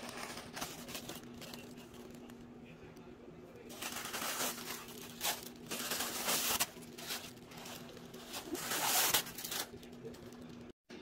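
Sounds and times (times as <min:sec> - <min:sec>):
tissue paper crinkling: 0:00.0 - 0:02.2, 0:03.7 - 0:10.4.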